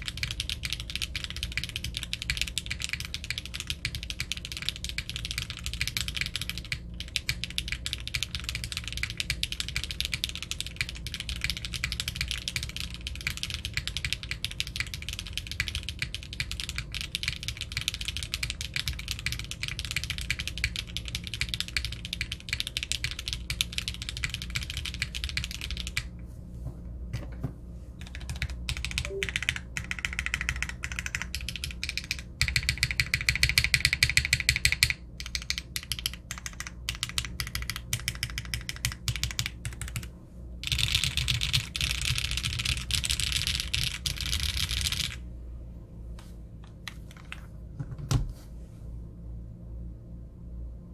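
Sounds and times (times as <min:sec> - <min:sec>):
mechanical keyboard typing: 0:00.0 - 0:26.1, 0:28.0 - 0:45.2, 0:46.6 - 0:47.4.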